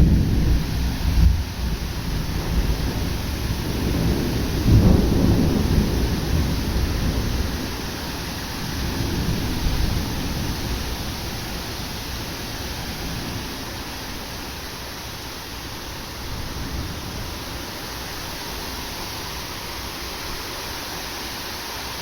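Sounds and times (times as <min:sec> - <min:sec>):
thunder rumbling: 0:00.0 - 0:19.5
rain hissing: 0:00.0 - 0:22.0.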